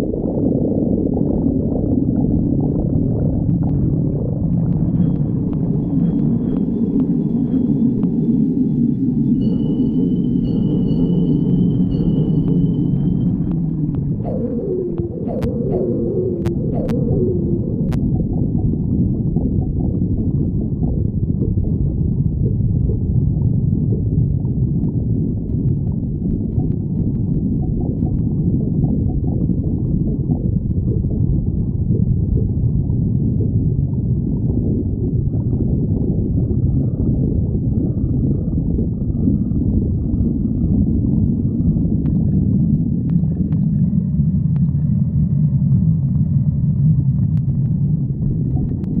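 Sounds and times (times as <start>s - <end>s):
animal stomach growling: 0.0s - 8.2s, 13.3s - 49.0s.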